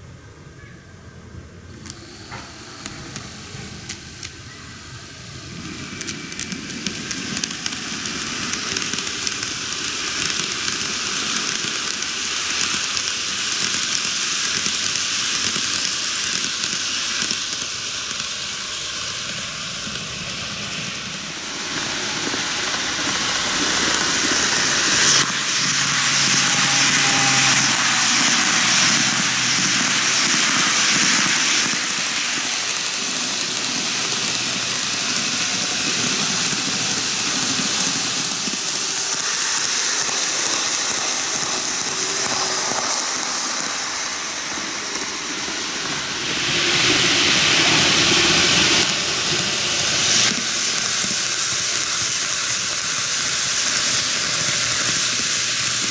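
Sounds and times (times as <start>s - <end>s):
model train wheels rattling: 1.7s - 55.9s.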